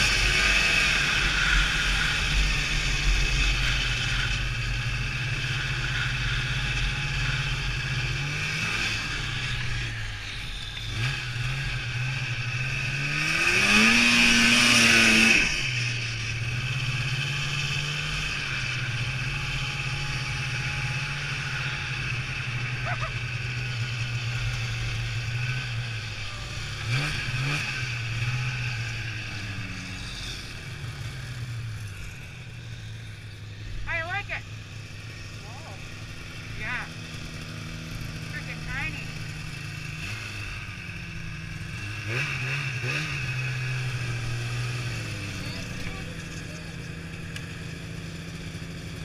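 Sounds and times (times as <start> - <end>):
snowmobile engine revving: 0.0 - 49.0.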